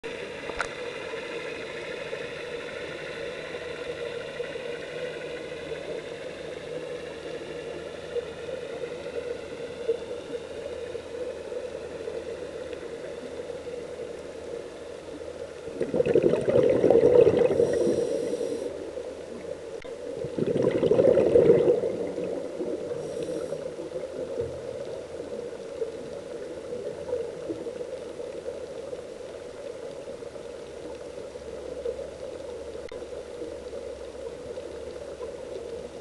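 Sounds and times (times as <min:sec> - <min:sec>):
underwater air bubbling: 0:00.0 - 0:36.0.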